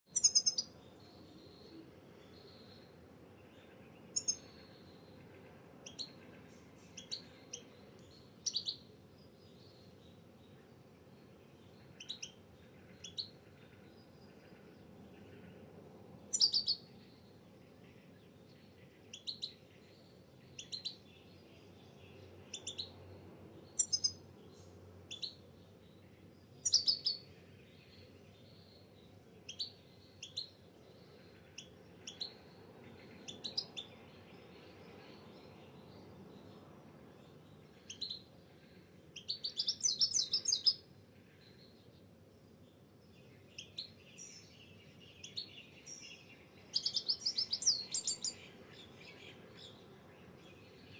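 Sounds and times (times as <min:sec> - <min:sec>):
small bird chirping: 0:00.0 - 0:50.9.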